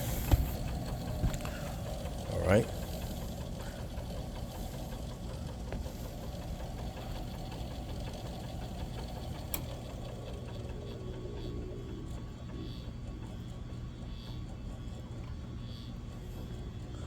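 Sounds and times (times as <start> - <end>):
rotary speaker cabinet running: 0.0 - 17.0.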